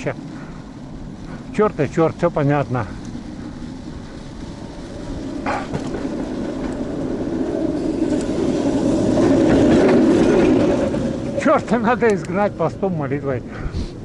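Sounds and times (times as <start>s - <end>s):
vehicle approaching: 0.0s - 14.0s.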